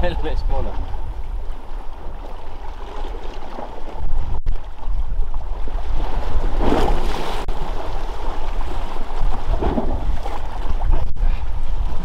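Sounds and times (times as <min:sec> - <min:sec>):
wind and water noise: 0:00.0 - 0:12.0.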